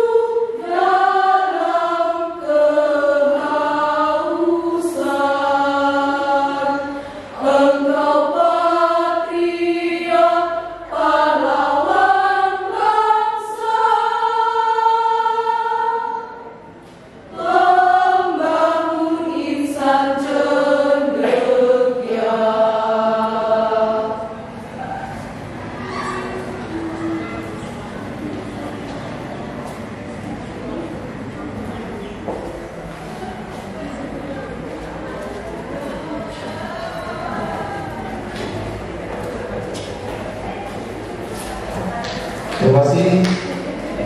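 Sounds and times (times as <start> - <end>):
women's choir singing: 0.0 - 44.0.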